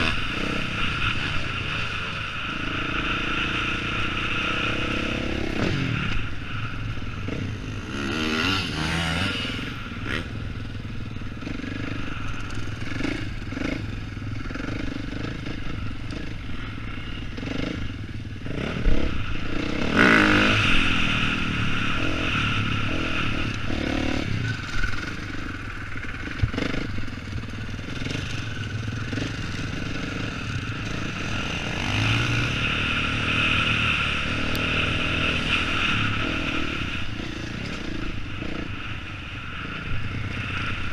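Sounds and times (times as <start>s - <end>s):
dirt bike engine revving: 0.0s - 6.6s, 7.2s - 40.9s.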